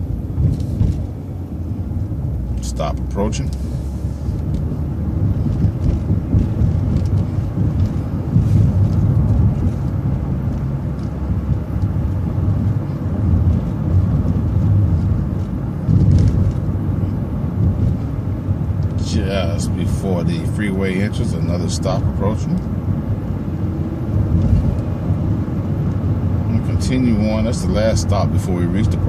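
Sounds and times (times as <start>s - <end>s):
bus engine rumble: 0.0s - 29.0s.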